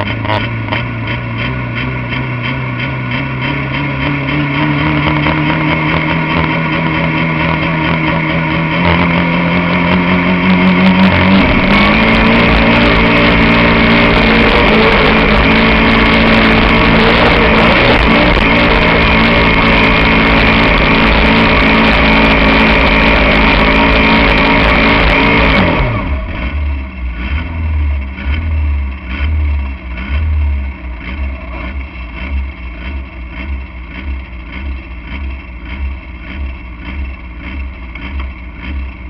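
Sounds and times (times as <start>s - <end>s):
tractor engine under load: 0.0s - 39.0s.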